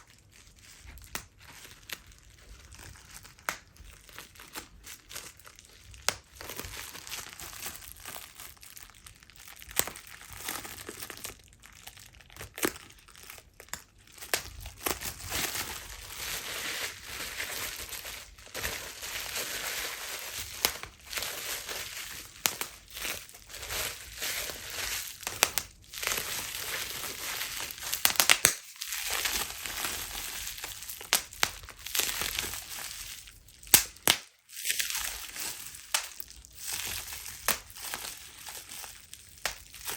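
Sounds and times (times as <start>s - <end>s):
bubble wrap crinkling and popping: 0.0s - 39.9s.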